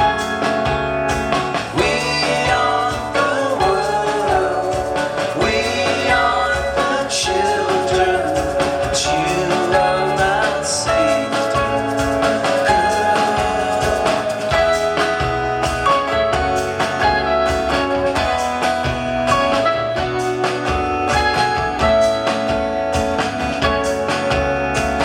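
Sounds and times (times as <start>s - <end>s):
gliding melodic lead line: 0.0s - 25.0s
live rock band playing: 0.0s - 25.0s.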